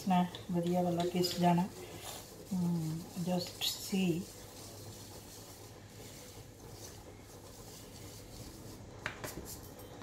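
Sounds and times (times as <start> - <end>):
spice rubbed through metal sieve: 0.0 - 9.9.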